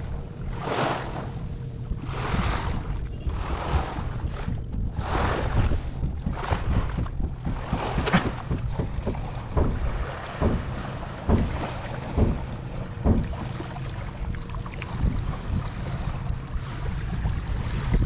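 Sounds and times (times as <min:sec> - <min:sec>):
washing surf: 0:00.0 - 0:18.0
wind rumbling on microphone: 0:00.0 - 0:18.0.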